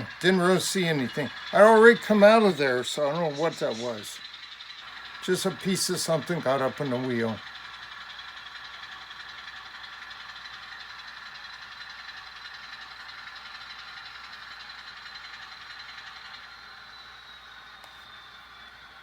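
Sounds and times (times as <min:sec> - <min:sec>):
model locomotive whine: 0:00.0 - 0:19.0.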